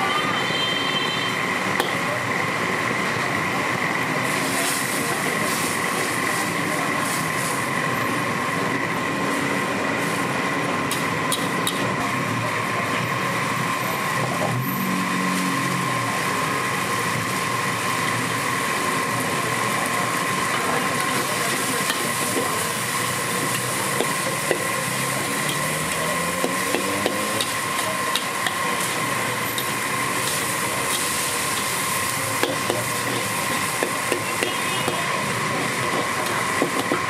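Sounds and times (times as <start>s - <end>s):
gas burner roaring: 0.0s - 37.0s
noodles stir-frying in wok: 0.0s - 37.0s.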